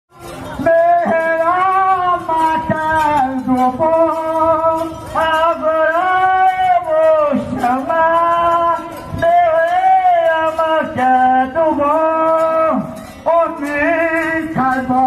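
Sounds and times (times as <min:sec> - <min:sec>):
man singing long held notes: 0:00.3 - 0:15.0.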